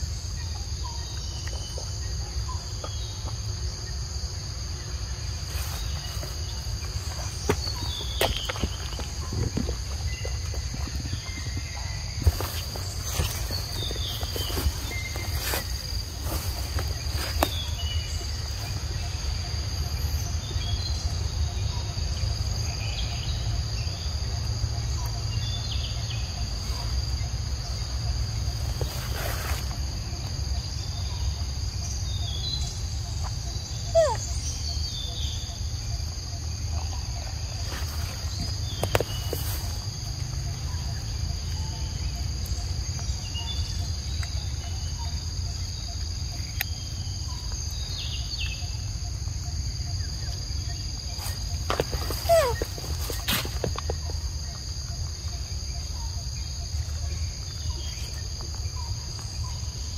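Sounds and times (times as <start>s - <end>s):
forest insects droning: 0.0s - 59.9s.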